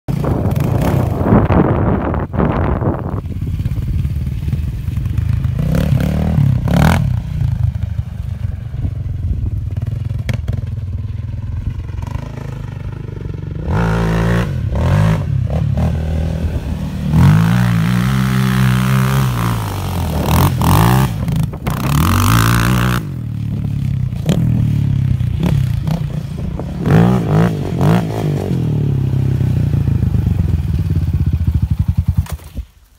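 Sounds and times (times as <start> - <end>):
atv engine revving: 0.1 - 32.5.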